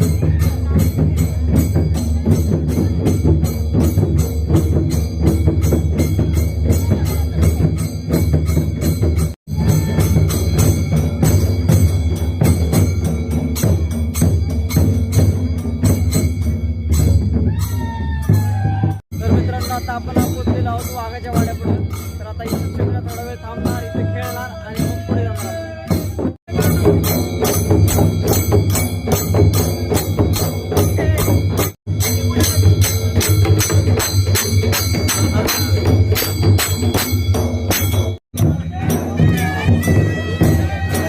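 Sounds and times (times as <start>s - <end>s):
repeating jingling strikes: 0.0s - 17.7s, 19.1s - 41.0s
heavy steady drumming: 0.0s - 41.0s.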